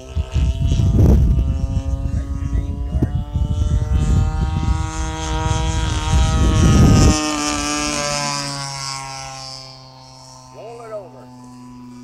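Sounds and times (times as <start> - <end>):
model plane engine drone: 0.0 - 12.0.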